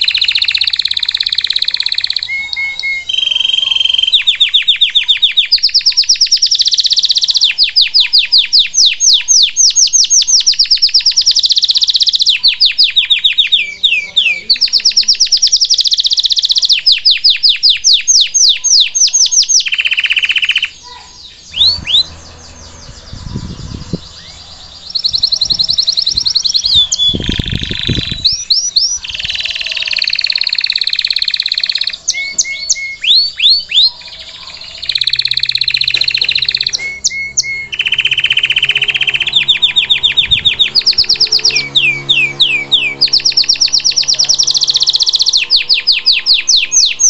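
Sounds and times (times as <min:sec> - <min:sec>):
canary singing: 0:00.0 - 0:47.0.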